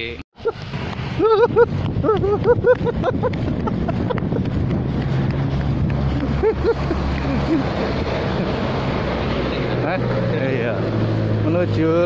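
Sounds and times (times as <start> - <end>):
low rumble of street movement: 0.0 - 12.0
wind: 0.0 - 12.0.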